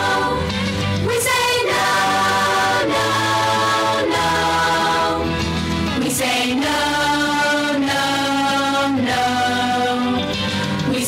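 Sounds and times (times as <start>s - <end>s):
choir singing held notes: 0.0s - 11.0s.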